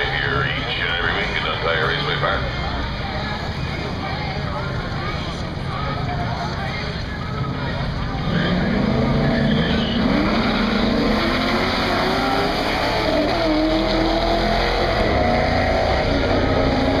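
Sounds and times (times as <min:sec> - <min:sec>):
loud car engines revving: 0:00.0 - 0:17.0.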